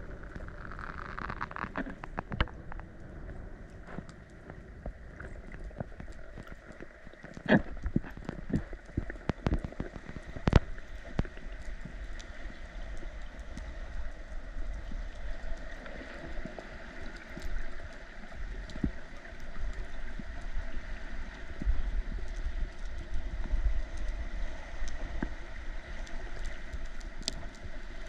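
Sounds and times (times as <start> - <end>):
underwater crackling hiss: 0.0 - 28.0.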